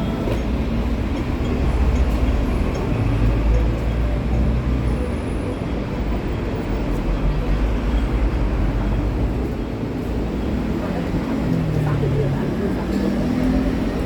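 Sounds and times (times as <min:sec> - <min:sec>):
moving vehicle rumble: 0:00.0 - 0:14.0.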